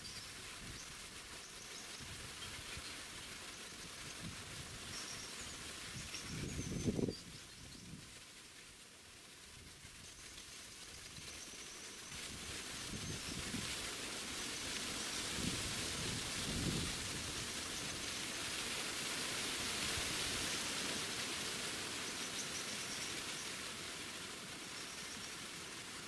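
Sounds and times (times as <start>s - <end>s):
forest ambience hiss: 0.0s - 26.0s.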